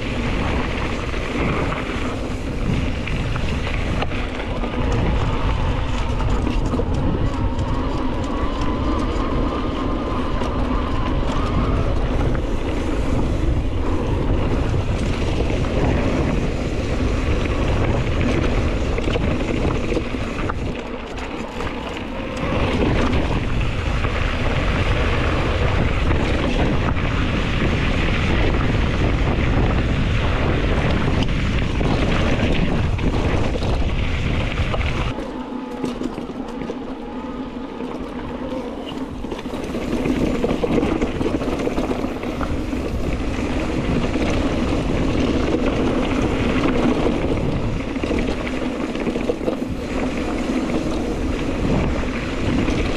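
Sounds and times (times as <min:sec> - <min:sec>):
bike tyres rolling on dirt: 0:00.0 - 0:52.9
wind buffeting microphone: 0:00.0 - 0:52.9.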